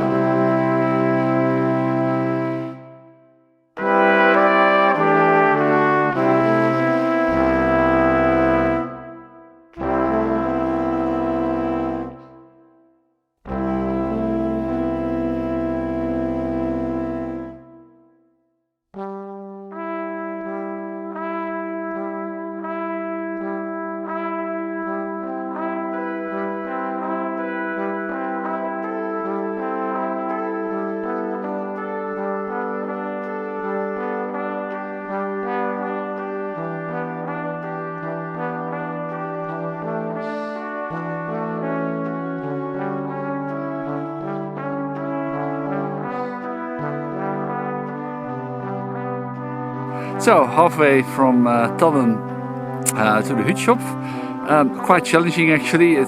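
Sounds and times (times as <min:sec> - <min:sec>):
slow music with held notes: 0:00.0 - 0:18.4, 0:19.0 - 0:56.0.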